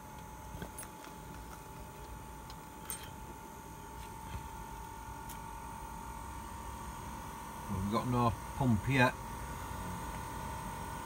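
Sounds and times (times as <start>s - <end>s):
heater fan whining: 0.0s - 11.0s.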